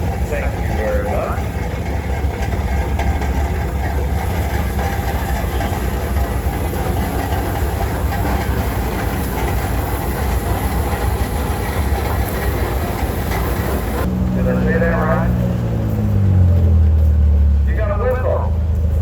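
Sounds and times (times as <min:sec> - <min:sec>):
steam engine rumbling: 0:00.0 - 0:19.0.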